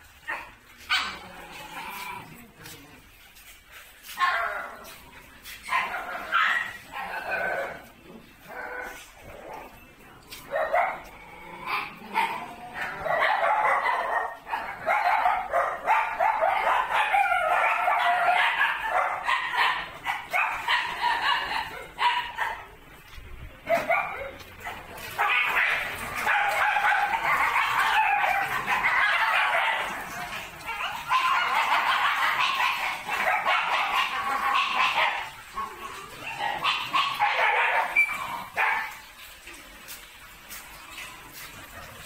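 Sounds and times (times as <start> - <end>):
dogs barking and yelping: 0.0 - 42.0.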